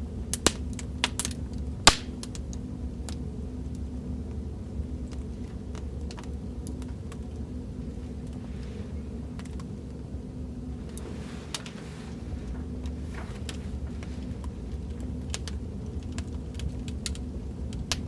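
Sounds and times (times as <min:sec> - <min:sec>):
steady low rumble: 0:00.0 - 0:18.0
wood fire crackling and popping: 0:00.0 - 0:18.0.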